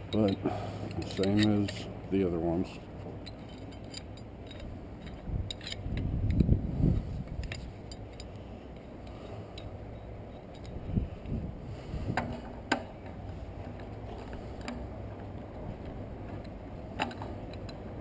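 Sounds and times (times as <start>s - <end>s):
metallic clicks and scrapes: 0.0s - 2.3s, 3.0s - 11.4s, 12.2s - 17.9s.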